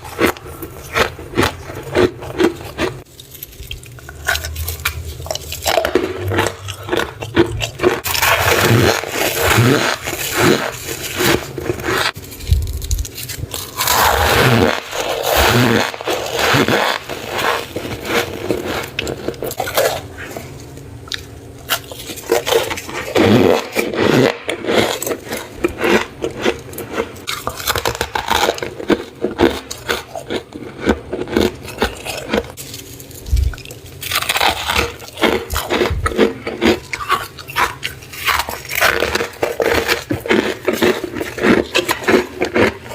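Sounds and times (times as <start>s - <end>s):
frost crunching and scraping: 0.0s - 42.9s.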